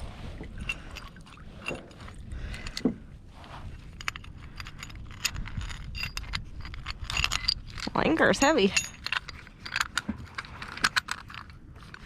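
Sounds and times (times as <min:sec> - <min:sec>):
anchor chain clinking and rattling: 0:00.3 - 0:12.0.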